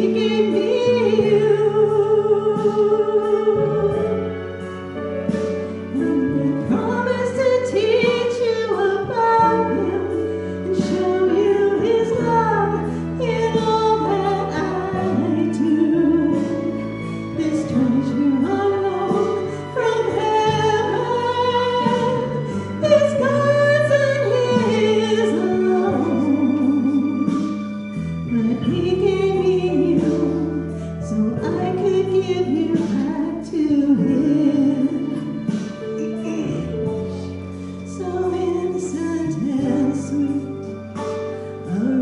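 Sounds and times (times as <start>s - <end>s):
woman singing into microphone: 0.0s - 4.5s, 5.3s - 27.6s, 28.3s - 42.0s
instrumental accompaniment: 0.0s - 42.0s.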